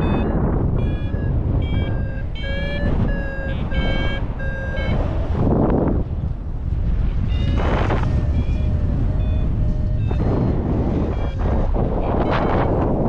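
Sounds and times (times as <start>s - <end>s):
variometer beeping: 0.0s - 6.1s, 6.9s - 13.0s
wind on microphone: 0.0s - 13.0s.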